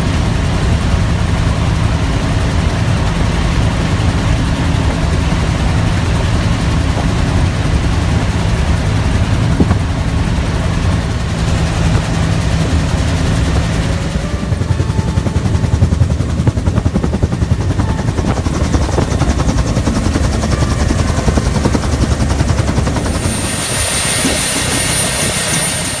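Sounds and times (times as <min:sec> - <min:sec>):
helicopter rotor beat: 0:00.0 - 0:26.0
high turbine whine: 0:00.0 - 0:26.0
low engine drone: 0:00.0 - 0:26.0.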